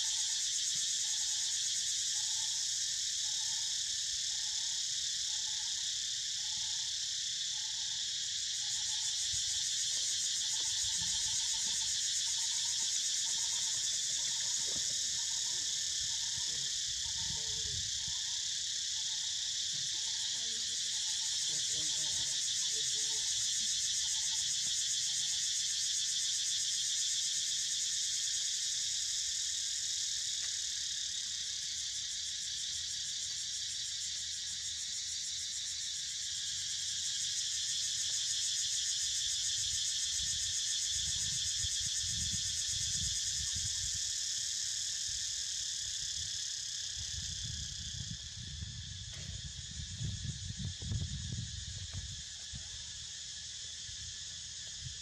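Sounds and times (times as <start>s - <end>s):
shrill insect chorus: 0.0s - 55.0s.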